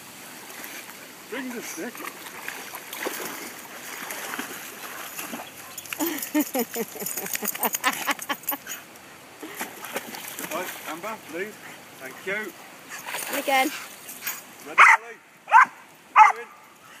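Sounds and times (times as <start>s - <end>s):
water splashing: 0.0s - 16.6s.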